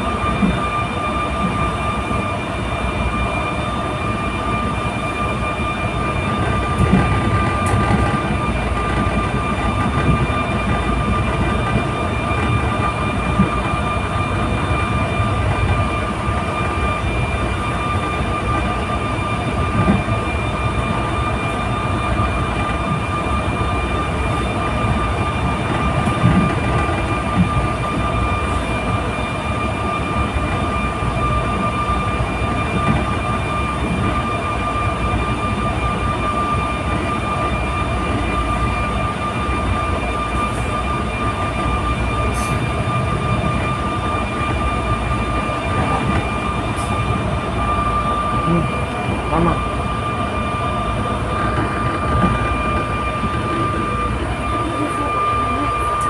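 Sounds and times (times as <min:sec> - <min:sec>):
constant high whine: 0:00.0 - 0:56.0
train wheels rumbling on track: 0:00.0 - 0:56.0.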